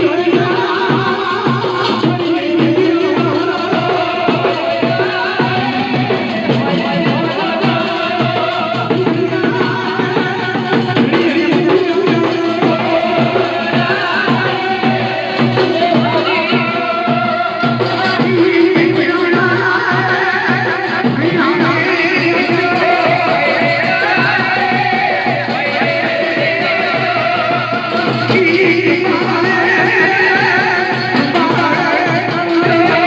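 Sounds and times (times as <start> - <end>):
dhol drumming: 0.0 - 33.0.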